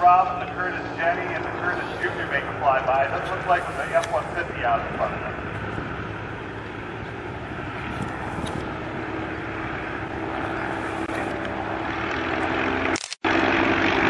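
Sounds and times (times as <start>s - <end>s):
propeller airplanes droning overhead: 0.0s - 14.0s.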